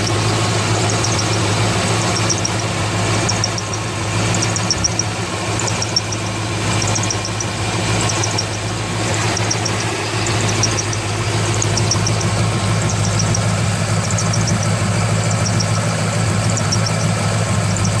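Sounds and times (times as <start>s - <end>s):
belt drive squeaking: 0.0s - 18.0s
car engine idling: 0.0s - 18.0s.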